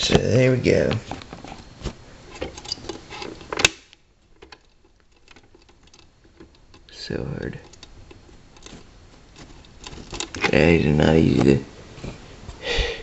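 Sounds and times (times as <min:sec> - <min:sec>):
wire handling clicks and rustles: 0:00.0 - 0:12.6.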